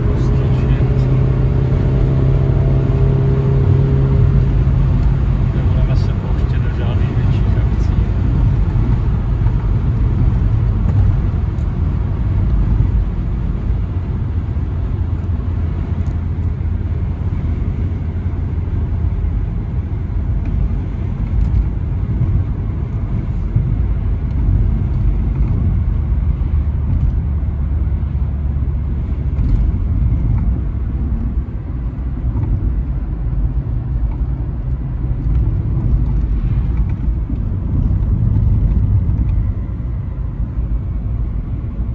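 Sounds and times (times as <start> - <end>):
car engine rumble while driving: 0.0 - 41.9
road noise: 0.0 - 41.9.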